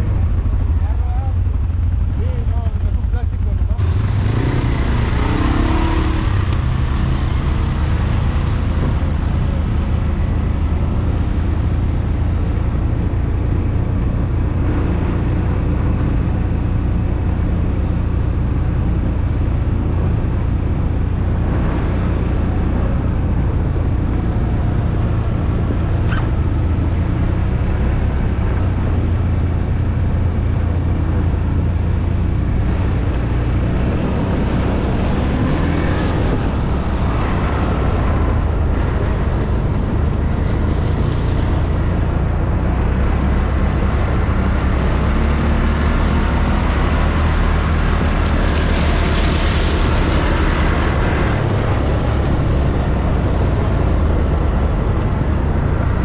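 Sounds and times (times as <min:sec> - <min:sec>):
atv engine droning: 0:00.0 - 0:56.0.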